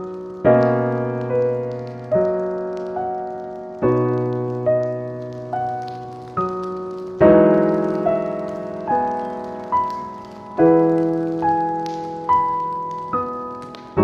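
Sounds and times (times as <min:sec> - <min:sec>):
solo piano music: 0:00.0 - 0:14.0.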